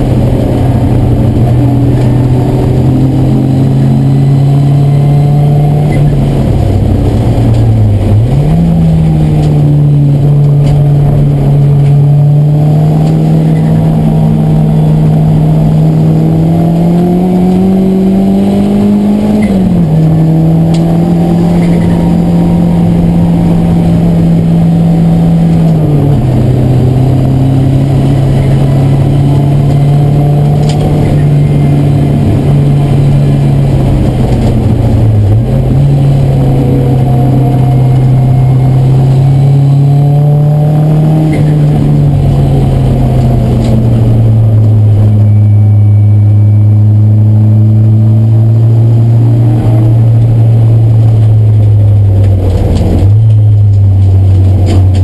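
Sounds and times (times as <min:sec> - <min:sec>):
race car engine with gear changes: 0:00.0 - 0:55.0.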